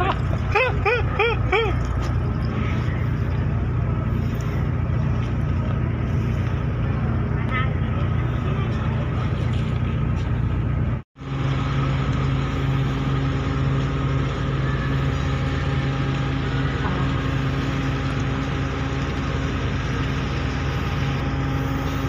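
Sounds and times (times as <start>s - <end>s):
ferry engines humming: 0.0s - 22.0s.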